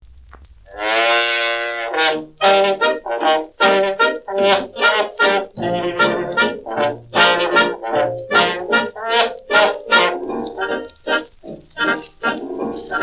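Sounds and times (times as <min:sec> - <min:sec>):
brass instruments playing: 0:00.7 - 0:13.0.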